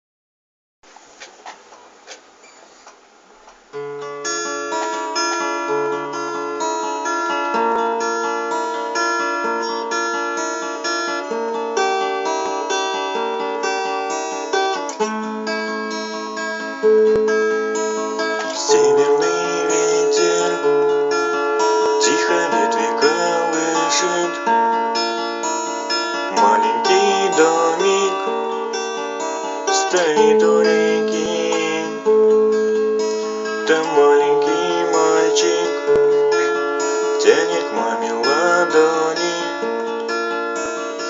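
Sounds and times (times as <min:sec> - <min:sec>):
acoustic guitar melody: 0:00.9 - 0:41.0.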